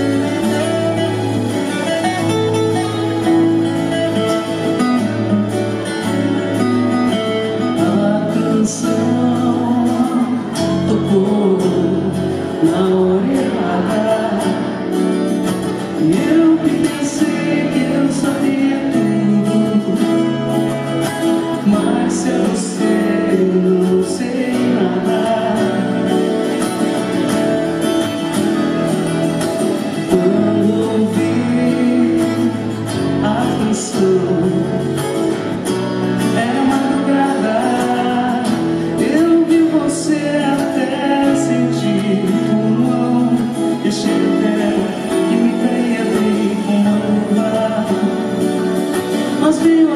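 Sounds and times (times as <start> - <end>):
acoustic guitar: 0.0 - 49.9.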